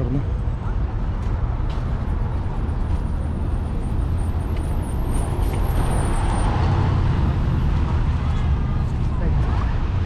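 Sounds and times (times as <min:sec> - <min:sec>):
city street traffic rumble: 0:00.0 - 0:10.0.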